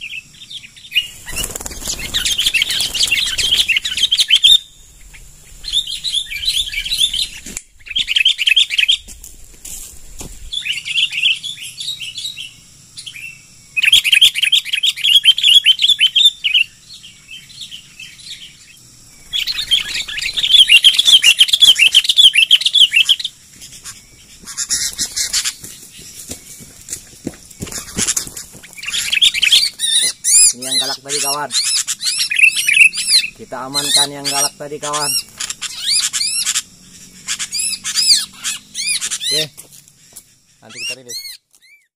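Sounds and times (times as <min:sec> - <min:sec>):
birds chattering harshly: 0:00.0 - 0:41.9.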